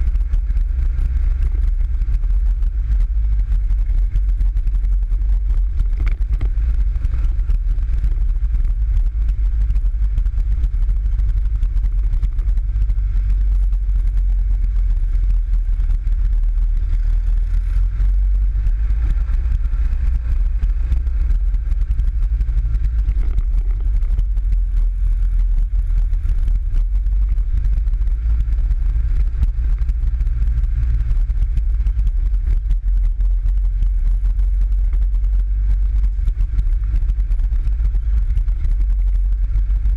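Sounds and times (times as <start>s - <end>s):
buggy engine rumbling: 0.0s - 39.9s.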